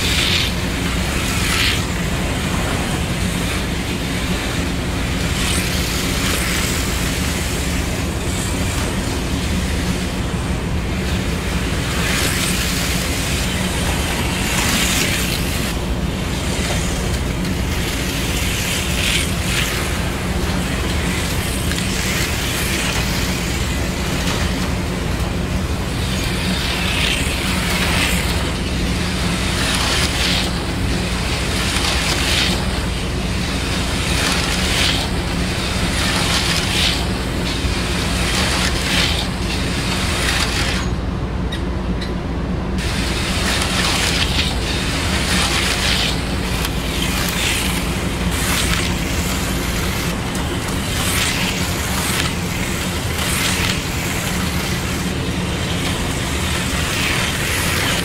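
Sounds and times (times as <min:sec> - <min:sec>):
slot cars whirring: 0:00.0 - 0:58.0.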